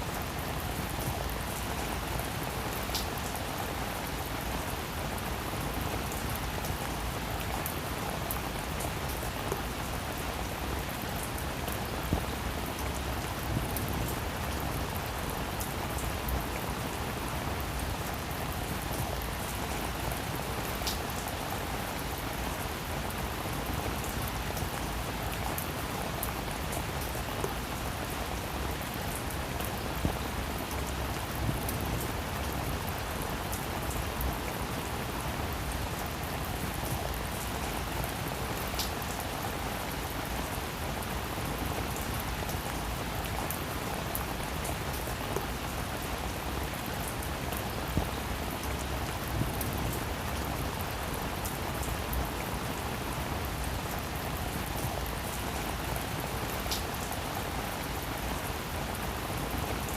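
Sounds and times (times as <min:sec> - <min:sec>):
rain pattering on a roof: 0:00.0 - 0:59.9.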